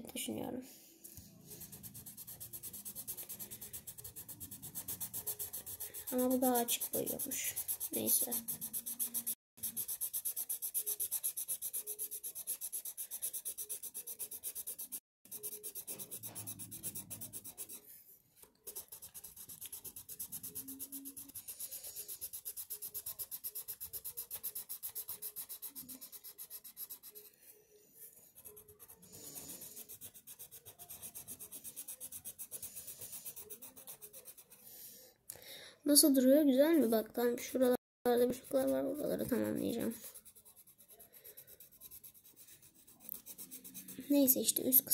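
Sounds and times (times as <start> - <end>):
pencil scratching on paper: 0.8 - 35.1, 36.9 - 44.9.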